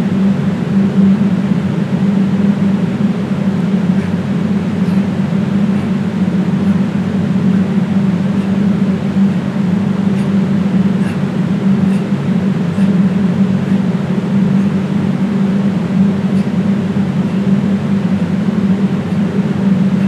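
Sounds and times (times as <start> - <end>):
loud machine hum: 0.0 - 20.0.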